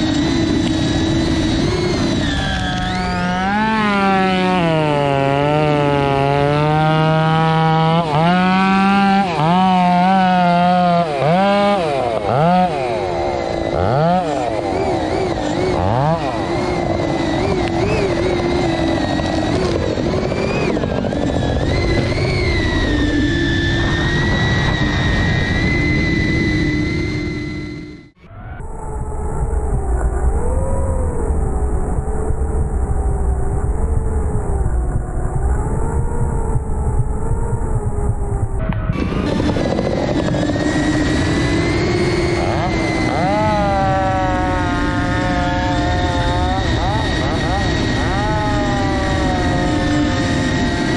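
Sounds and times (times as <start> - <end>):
drone motors and propellers whining: 0.0 - 50.9.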